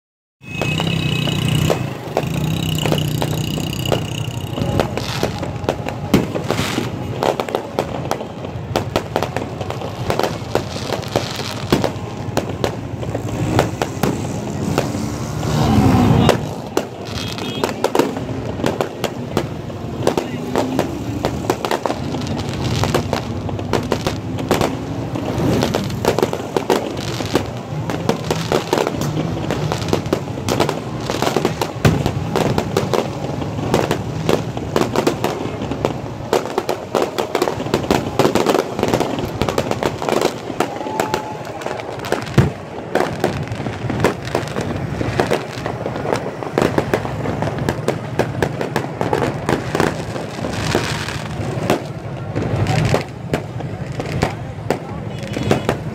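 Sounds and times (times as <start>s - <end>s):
fireworks crackling and popping: 0.4s - 55.9s.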